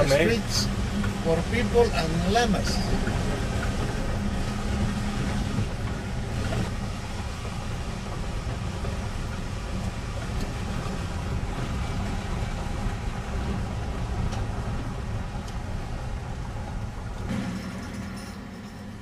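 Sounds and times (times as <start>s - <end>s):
car rumbling over cobblestones: 0.0s - 19.0s.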